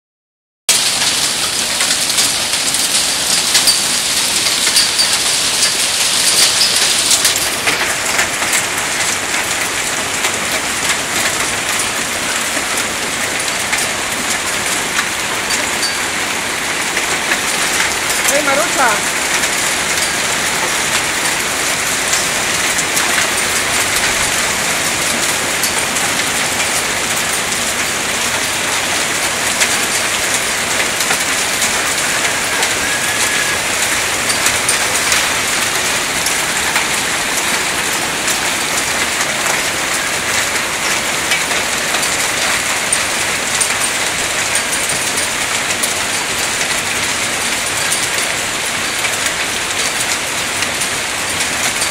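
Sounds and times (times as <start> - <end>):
hail and heavy rain: 0.7 - 51.9.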